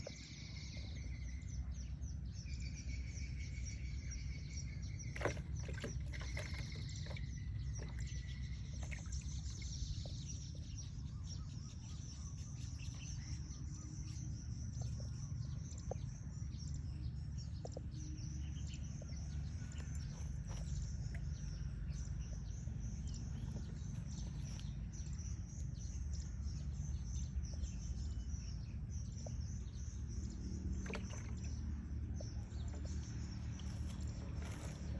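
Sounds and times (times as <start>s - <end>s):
birds chirping: 0.0s - 34.9s
continuous high chirping: 0.0s - 34.9s
steady low rumble: 0.0s - 34.9s.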